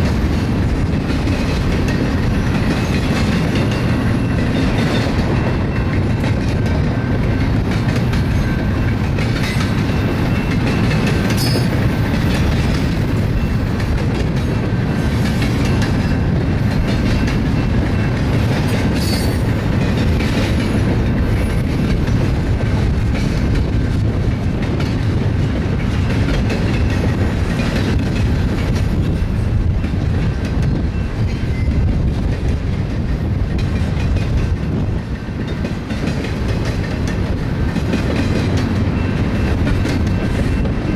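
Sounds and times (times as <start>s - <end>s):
freight train rumbling past: 0.0s - 40.9s
wheels clattering over rail joints: 0.0s - 40.9s.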